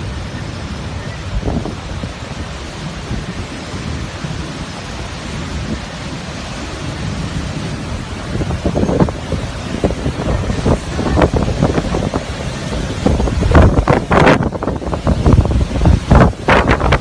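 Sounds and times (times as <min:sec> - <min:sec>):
gusts buffeting microphone: 0:00.0 - 0:17.0
heavy rain: 0:00.0 - 0:17.0
hurricane wind: 0:00.0 - 0:17.0.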